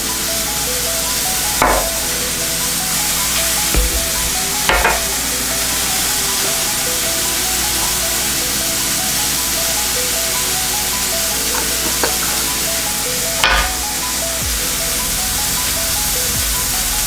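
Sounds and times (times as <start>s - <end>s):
chicken sizzling in a pan: 0.0s - 17.0s
faint background music: 0.0s - 17.0s.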